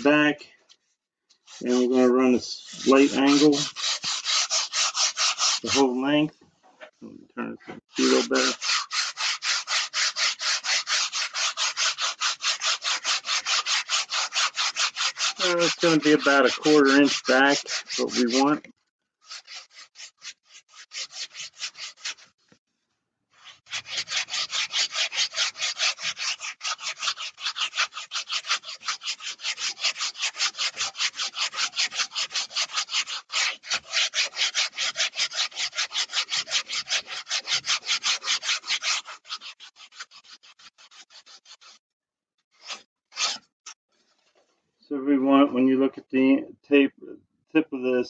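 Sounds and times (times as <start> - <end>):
sandpaper scraping styrofoam: 1.4 - 6.0, 7.9 - 22.4, 23.3 - 41.8, 42.5 - 44.1.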